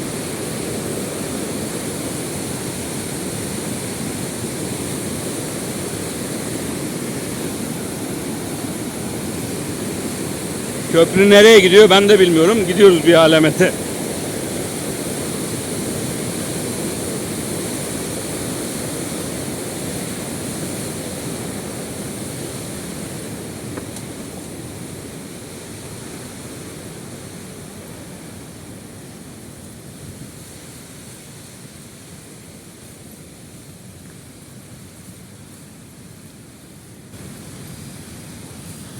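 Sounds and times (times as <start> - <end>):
river and waterfall rushing: 0.0 - 33.9, 37.1 - 38.9.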